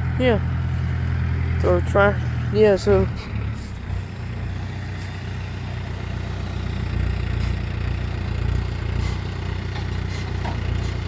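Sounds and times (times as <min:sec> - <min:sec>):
diesel tractor engine running: 0:00.0 - 0:11.0.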